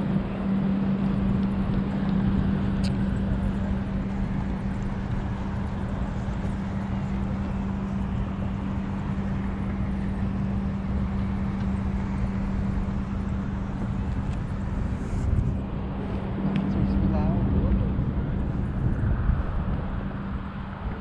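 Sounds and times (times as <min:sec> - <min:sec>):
rumbling rush: 0:00.0 - 0:21.0
steady low hum: 0:00.0 - 0:21.0.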